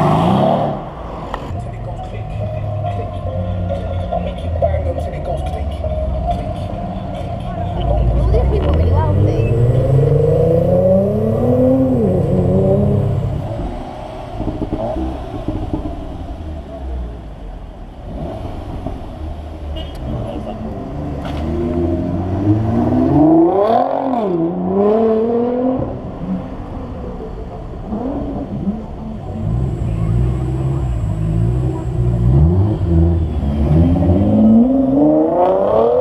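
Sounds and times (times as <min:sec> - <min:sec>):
car engine accelerating hard: 0:00.0 - 0:17.4, 0:18.0 - 0:26.5, 0:27.8 - 0:36.0.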